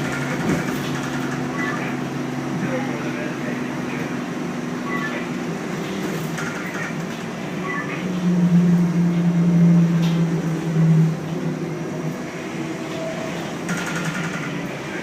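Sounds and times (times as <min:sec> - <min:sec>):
bus engine low hum: 0:00.0 - 0:15.0.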